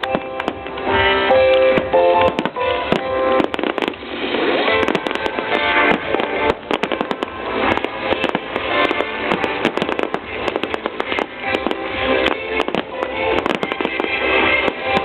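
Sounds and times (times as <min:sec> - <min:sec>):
crackling of small fireworks: 0:00.0 - 0:15.0
fireworks bangs: 0:00.0 - 0:15.0
loud music: 0:00.0 - 0:15.0.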